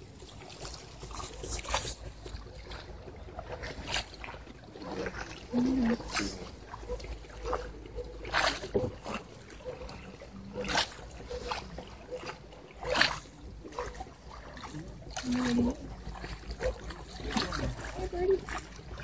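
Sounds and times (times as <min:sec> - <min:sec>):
oars splashing in water: 0:00.0 - 0:19.0.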